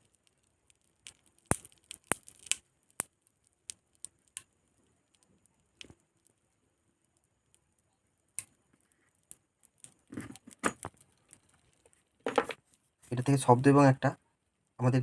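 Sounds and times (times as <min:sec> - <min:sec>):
electric iron coil crackling and popping: 0:00.0 - 0:13.4.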